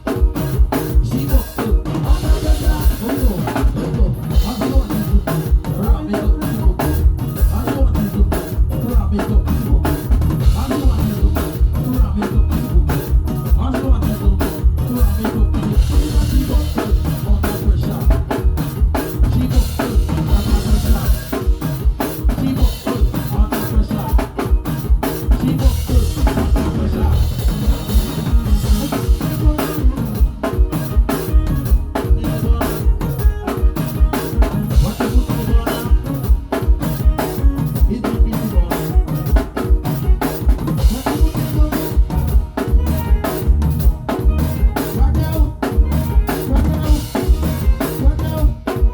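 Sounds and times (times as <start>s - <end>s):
drum kit groove: 0.0s - 48.9s.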